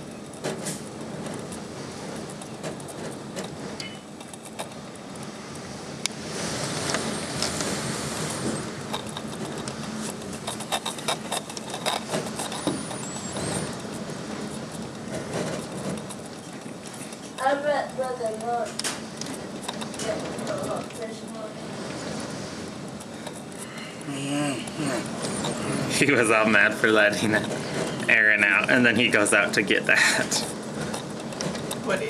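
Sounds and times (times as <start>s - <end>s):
rattling knocks and clatter: 0.0s - 23.9s, 24.9s - 32.0s
strong wind gusts: 0.0s - 32.0s.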